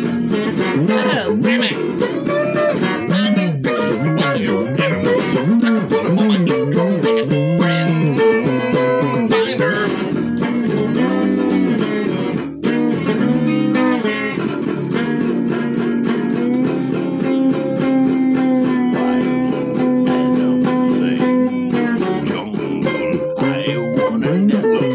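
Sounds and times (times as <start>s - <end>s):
electric guitar playing blues: 0.0s - 24.9s.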